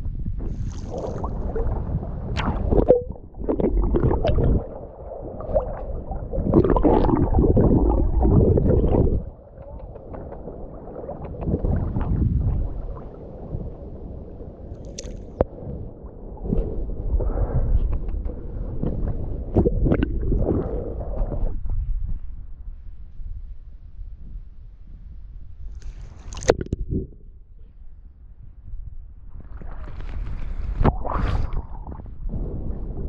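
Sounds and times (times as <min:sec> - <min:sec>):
sea water sloshing and gurgling: 0:00.3 - 0:22.3, 0:25.7 - 0:27.1, 0:29.2 - 0:33.0.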